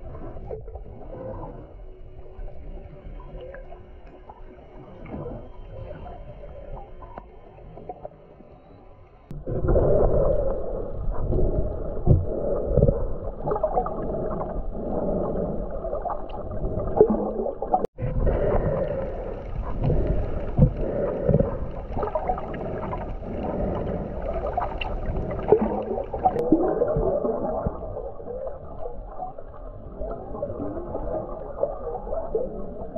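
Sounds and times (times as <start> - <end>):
underwater gurgling and sloshing: 0.0 - 32.9.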